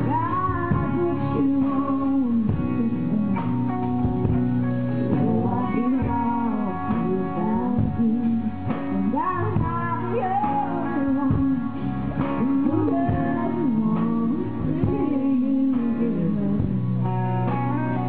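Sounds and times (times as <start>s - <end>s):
country band with guitar: 0.0s - 18.0s
woman singing into microphone: 0.0s - 18.0s.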